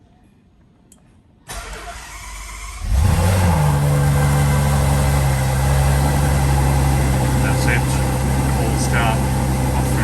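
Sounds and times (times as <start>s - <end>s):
car engine starting and idling: 1.4s - 10.0s.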